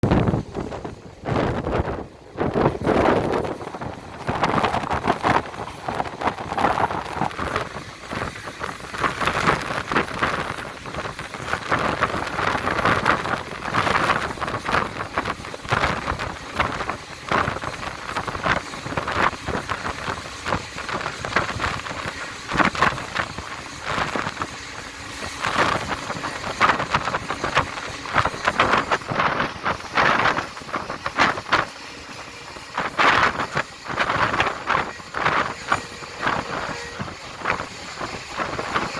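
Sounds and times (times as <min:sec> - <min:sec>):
train rushing on tracks: 0:00.0 - 0:38.9
wheels clattering and knocking: 0:00.1 - 0:38.9.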